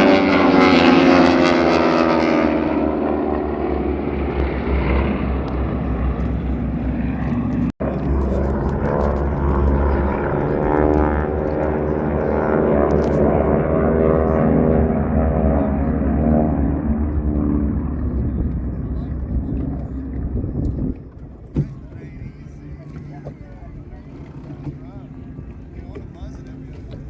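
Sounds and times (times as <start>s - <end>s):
propeller airplane engines droning: 0.0s - 27.0s.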